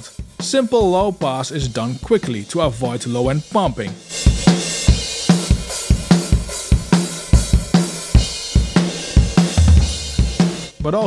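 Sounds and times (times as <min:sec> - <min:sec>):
drum kit playing a beat: 0:00.0 - 0:11.0.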